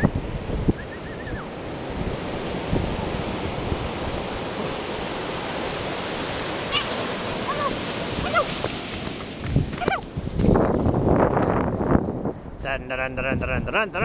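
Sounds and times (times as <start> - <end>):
ocean surf breaking: 0.0 - 11.2.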